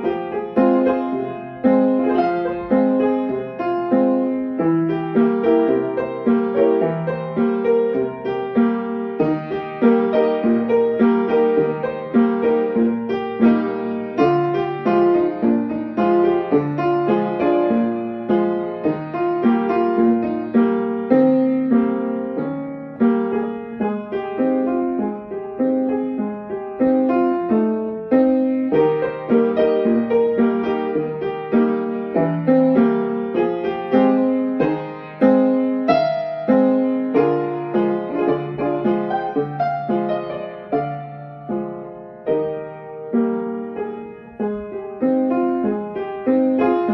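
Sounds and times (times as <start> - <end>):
piano playing: 0.0 - 46.9.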